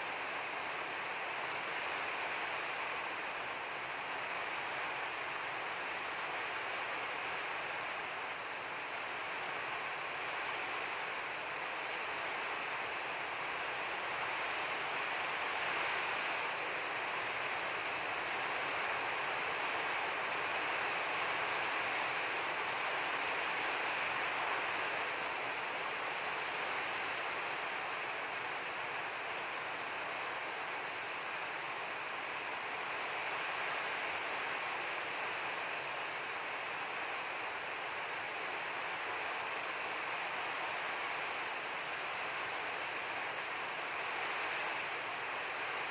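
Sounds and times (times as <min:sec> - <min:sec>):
steady rushing hiss: 0:00.0 - 0:45.9.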